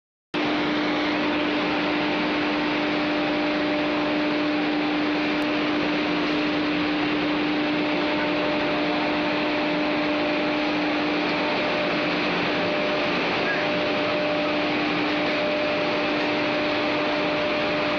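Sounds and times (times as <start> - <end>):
constant machine hum: 0.4 - 17.9
wood chipper machinery hiss: 0.4 - 17.9.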